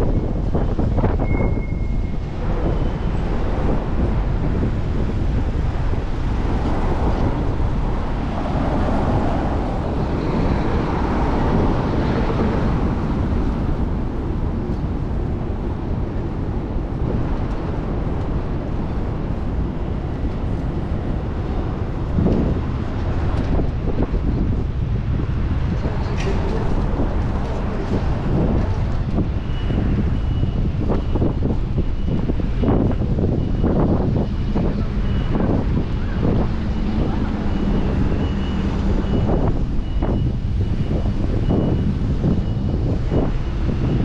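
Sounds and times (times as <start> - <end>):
city traffic noise: 0.0 - 44.0
wind rushing over microphone: 0.0 - 44.0.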